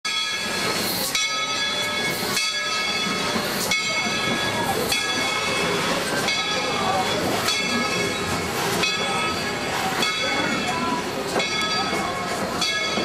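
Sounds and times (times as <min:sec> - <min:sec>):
steam train hissing steam: 0:00.2 - 0:13.0.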